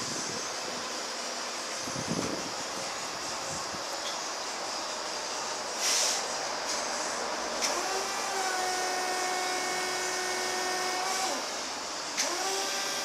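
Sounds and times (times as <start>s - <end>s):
hydraulic pump motor whine: 0.0s - 5.9s, 6.6s - 13.0s.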